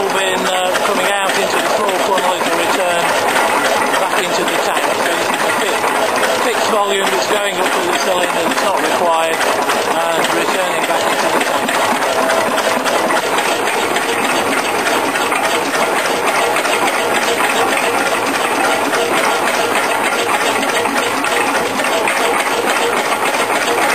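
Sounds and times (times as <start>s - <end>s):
engine clattering with fast ticks: 0.0s - 23.9s.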